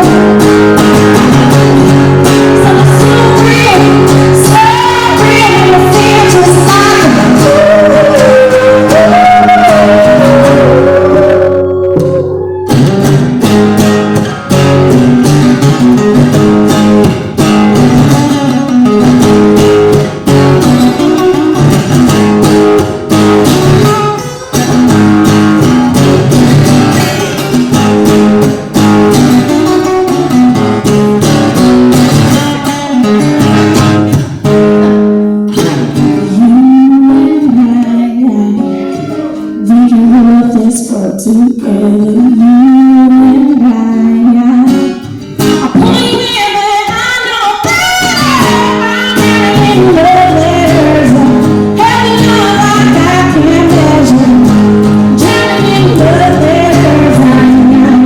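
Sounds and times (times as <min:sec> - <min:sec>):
strummed guitar chords: 0:00.0 - 0:58.0.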